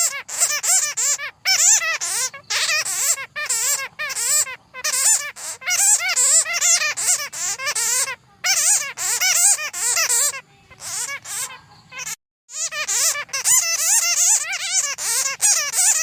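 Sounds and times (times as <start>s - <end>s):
bats squeaking: 0.0s - 16.0s.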